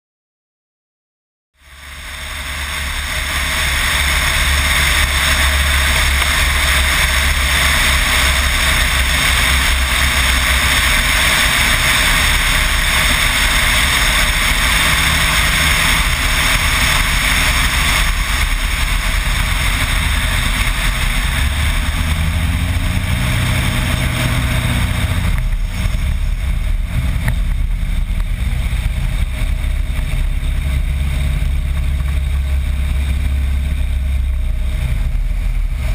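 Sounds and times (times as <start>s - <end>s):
propeller engine running: 1.6s - 35.9s
rush of wind and water: 1.7s - 35.9s.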